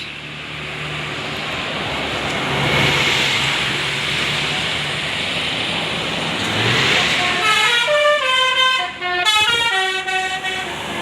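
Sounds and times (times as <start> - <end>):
tyre and road noise: 0.0 - 11.0
vehicle engine drone: 0.0 - 11.0.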